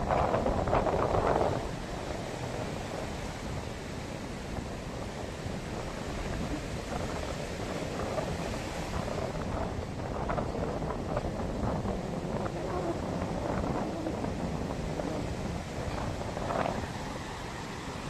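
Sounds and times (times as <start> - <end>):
ocean surf on beach: 0.0 - 18.0
wind buffeting microphone: 0.0 - 18.0.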